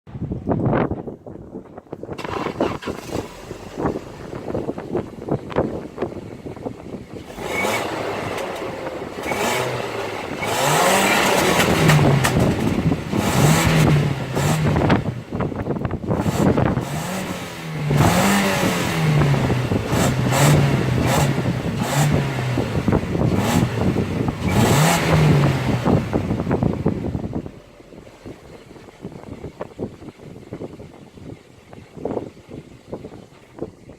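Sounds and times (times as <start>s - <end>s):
car engine revving: 2.1s - 29.8s.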